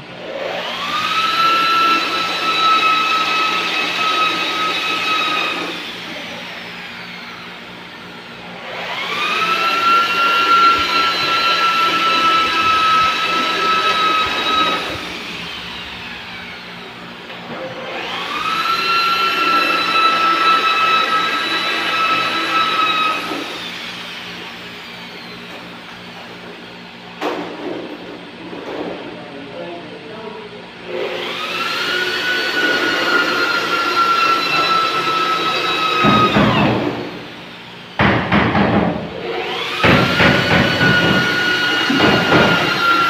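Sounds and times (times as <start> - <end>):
electric drill boring through metal: 0.0 - 27.0, 30.8 - 38.1, 39.0 - 43.0.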